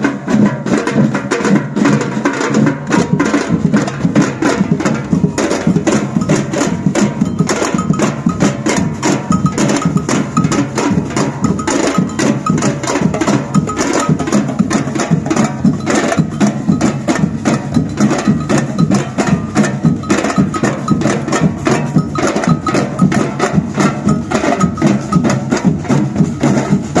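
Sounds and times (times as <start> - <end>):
samba drumming: 0.0 - 27.0
cowbell striking: 2.8 - 27.0.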